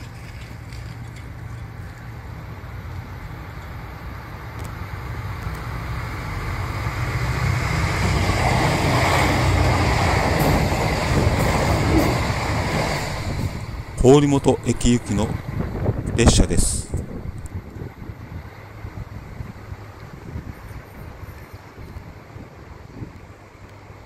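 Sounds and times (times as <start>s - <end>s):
diesel train rumble: 0.0s - 24.0s.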